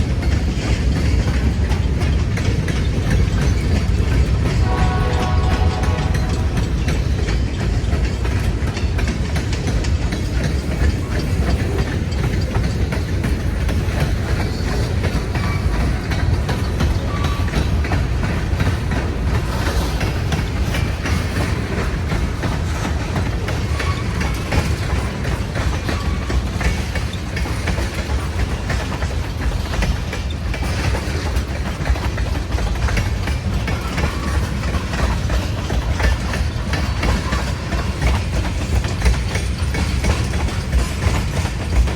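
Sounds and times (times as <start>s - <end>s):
freight train cars rolling: 0.0s - 41.9s
wheels clicking over rail joints: 0.0s - 41.9s.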